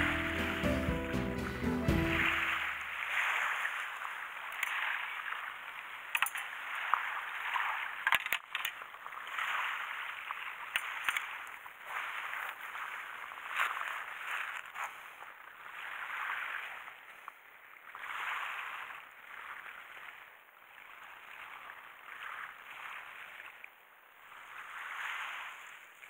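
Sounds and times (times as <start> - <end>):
waves washing on shore: 1.8 - 26.0.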